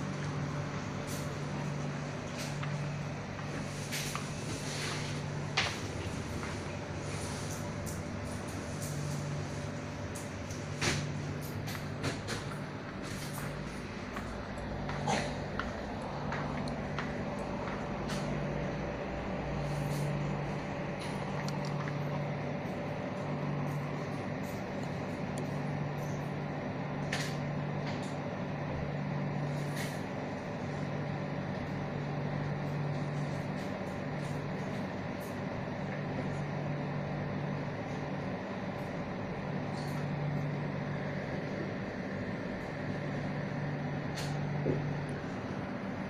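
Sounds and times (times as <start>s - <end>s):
air conditioner hum: 0.0s - 46.0s.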